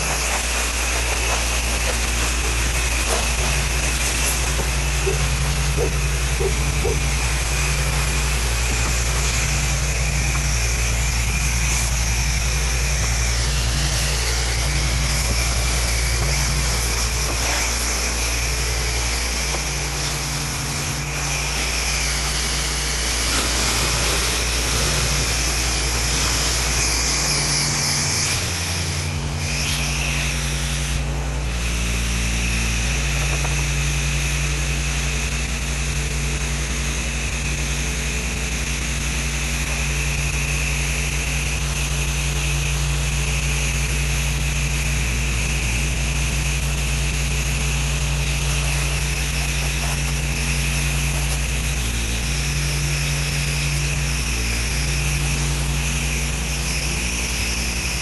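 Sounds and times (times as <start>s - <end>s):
water spray hissing: 0.0s - 36.8s, 38.4s - 58.0s
pressure washer engine running: 0.0s - 58.0s.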